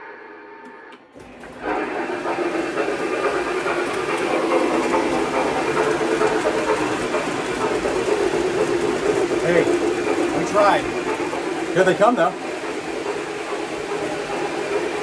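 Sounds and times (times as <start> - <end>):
model train wheels and motors: 0.6 - 15.0.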